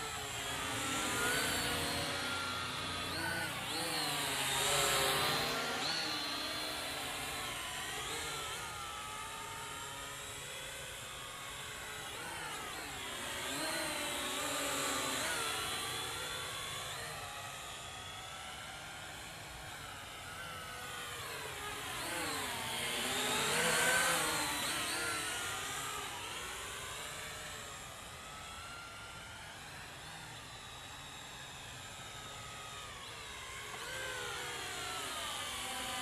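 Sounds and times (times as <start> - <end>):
quadcopter propellers whining: 0.0 - 36.0.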